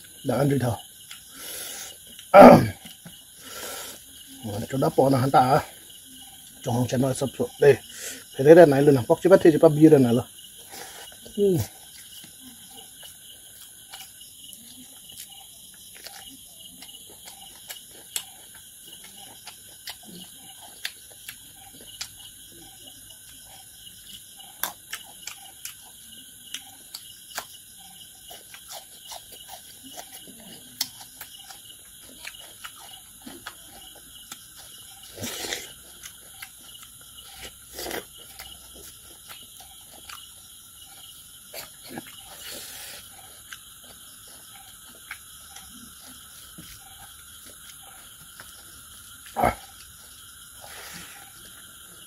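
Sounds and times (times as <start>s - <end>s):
insects chirring: 0.0s - 52.0s
man chewing and lip smacking: 0.8s - 3.2s, 10.6s - 51.8s.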